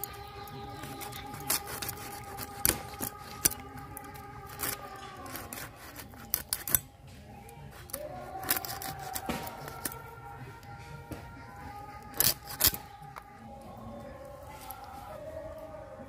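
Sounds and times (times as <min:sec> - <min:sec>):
knife cutting and scraping fish: 0:00.0 - 0:13.5.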